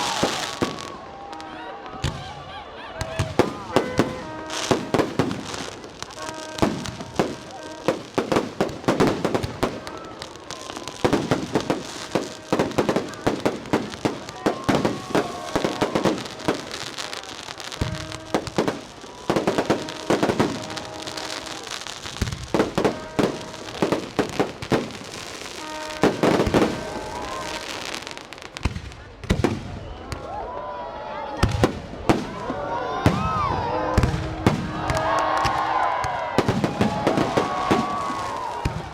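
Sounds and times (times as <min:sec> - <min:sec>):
fireworks bangs and crackles: 0:00.0 - 0:30.5, 0:31.4 - 0:38.9.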